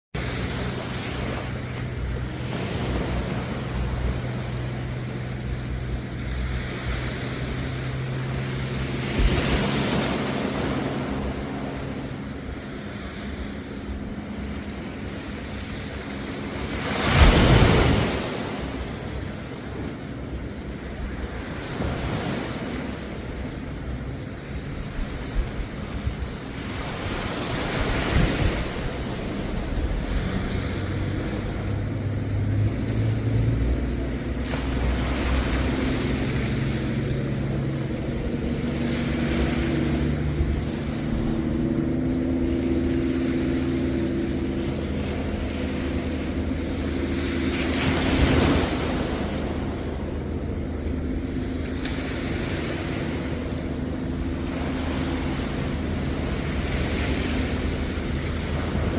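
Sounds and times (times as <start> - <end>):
low engine hum: 0.1 - 58.9
sea waves washing onto beach: 0.2 - 58.9.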